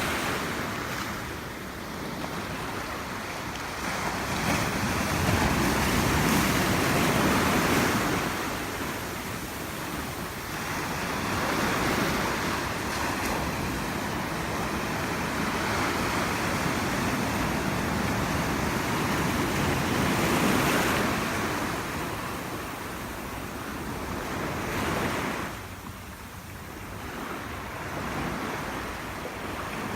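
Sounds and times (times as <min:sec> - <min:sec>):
ocean waves lapping on shore: 0:00.0 - 0:29.9.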